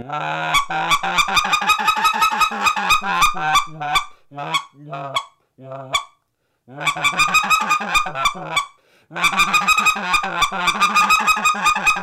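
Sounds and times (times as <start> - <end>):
goose call clucks: 0.0 - 6.2, 6.8 - 12.0.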